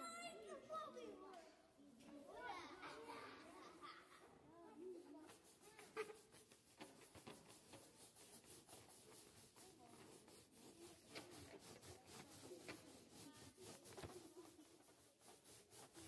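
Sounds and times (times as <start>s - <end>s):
faint children's voices: 0.0s - 16.0s.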